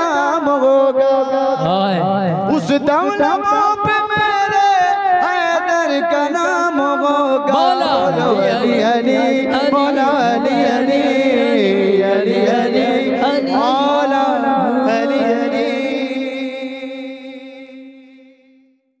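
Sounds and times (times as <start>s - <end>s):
man singing devotional song: 0.0s - 18.7s.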